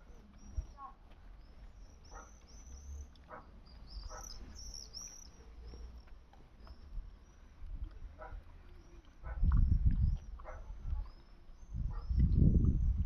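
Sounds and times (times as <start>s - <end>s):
animal chewing: 0.0s - 12.8s.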